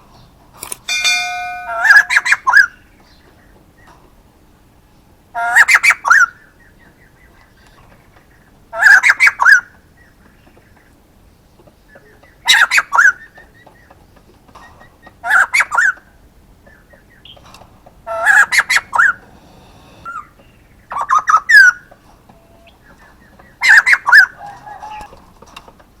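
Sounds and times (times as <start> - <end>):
bird calling gliding notes: 0.9 - 3.9, 5.3 - 25.2.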